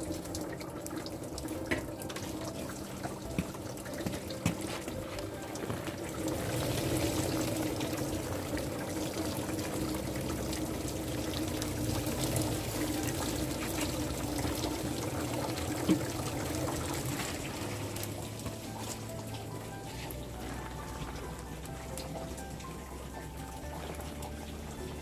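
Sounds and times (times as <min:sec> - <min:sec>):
liquid pouring: 0:00.0 - 0:25.0.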